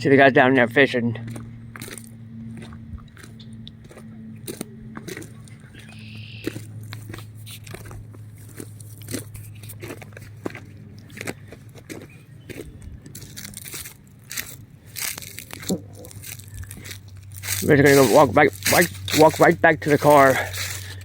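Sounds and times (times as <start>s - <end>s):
steady low hum: 0.0s - 21.0s
footsteps on a path: 1.1s - 21.0s.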